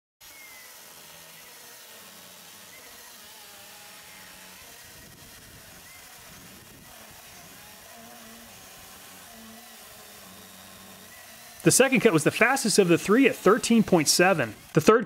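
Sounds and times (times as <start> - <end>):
chainsaw cutting wood: 0.2 - 15.0.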